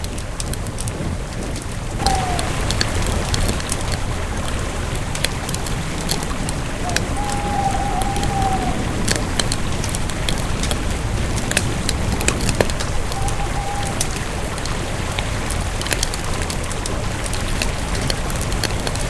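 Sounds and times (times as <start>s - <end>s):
wood crackling and popping: 0.0s - 19.0s
campfire flames rushing: 0.2s - 19.0s.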